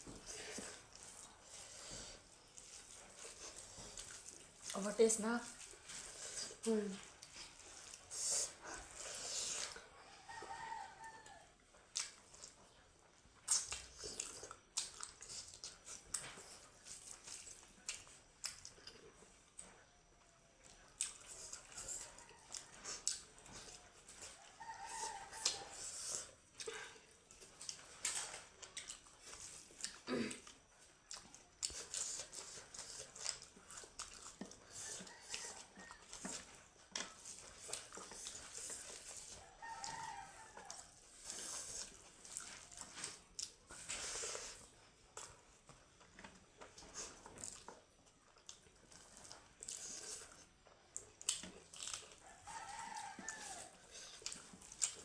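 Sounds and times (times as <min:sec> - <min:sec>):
chewing and mouth clicks: 0:00.0 - 0:55.0.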